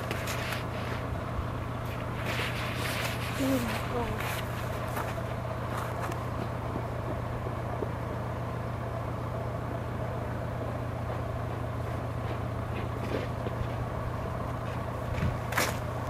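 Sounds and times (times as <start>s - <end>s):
faint steady whine: 0.0s - 16.0s
low mechanical hum: 0.0s - 16.0s.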